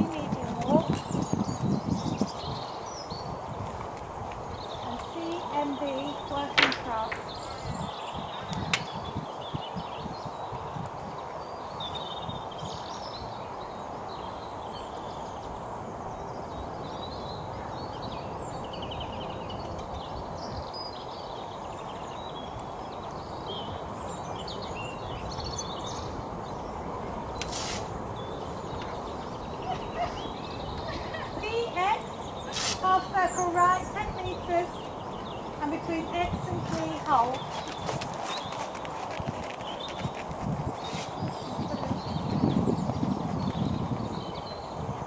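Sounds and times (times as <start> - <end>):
outdoor background noise: 0.0 - 45.0
small birds chirping: 0.0 - 45.0.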